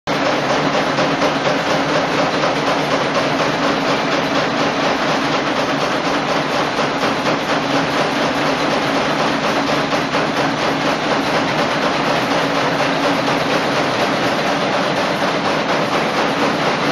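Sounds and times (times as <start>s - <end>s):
nail machines clattering: 0.1s - 16.9s.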